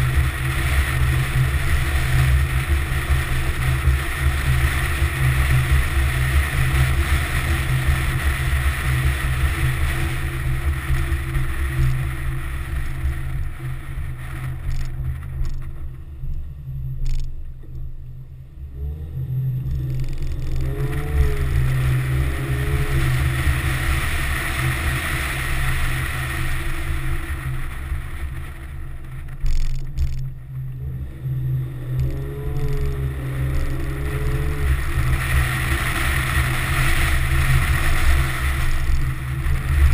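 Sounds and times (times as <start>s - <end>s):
car engine revving: 0.0s - 39.9s
road rumble: 0.0s - 39.9s.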